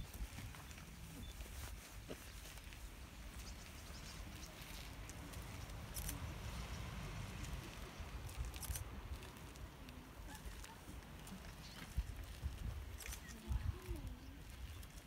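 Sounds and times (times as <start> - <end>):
wind rumble on microphone: 2.7 - 15.0.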